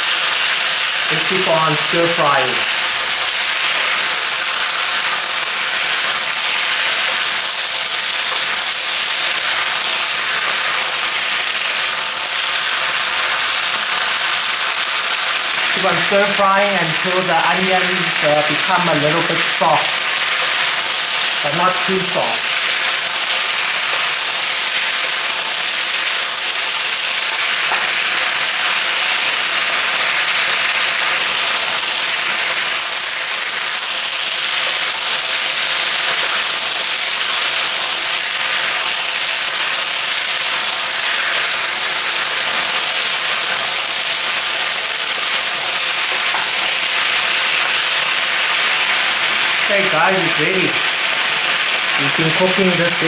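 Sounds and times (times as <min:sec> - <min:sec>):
food sizzling in hot oil: 0:00.0 - 0:53.0.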